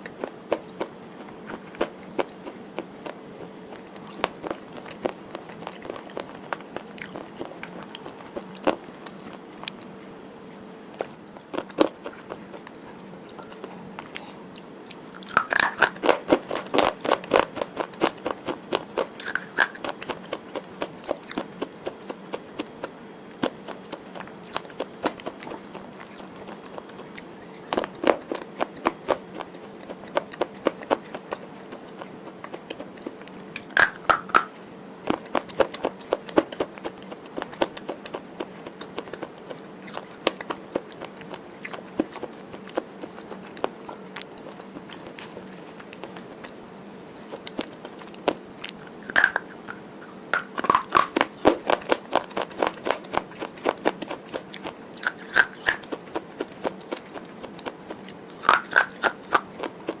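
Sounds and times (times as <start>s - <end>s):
person chewing a snack bar: 0.0s - 10.0s, 10.9s - 46.6s, 47.2s - 60.0s.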